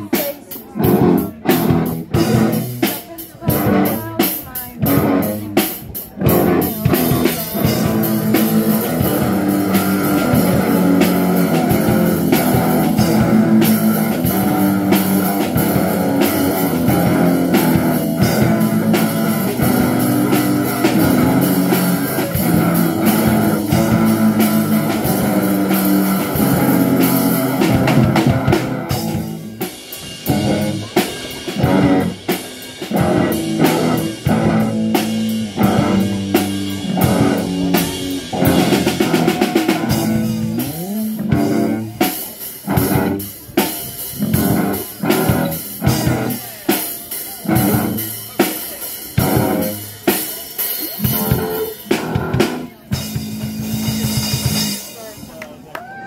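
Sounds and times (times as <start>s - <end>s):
rock band playing live: 0.0s - 55.3s.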